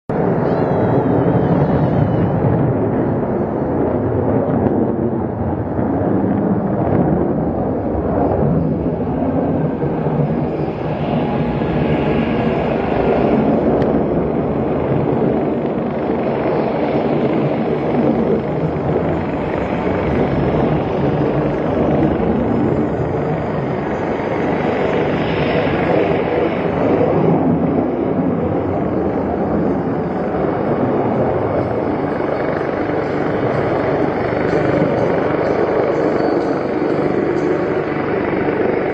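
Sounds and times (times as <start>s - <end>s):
jet engine rumble: 0.1s - 38.9s.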